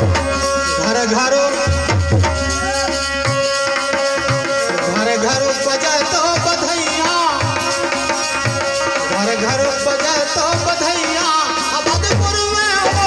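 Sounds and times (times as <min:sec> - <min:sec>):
hand drum beat: 0:00.0 - 0:13.0
harmonium melody: 0:00.0 - 0:13.0.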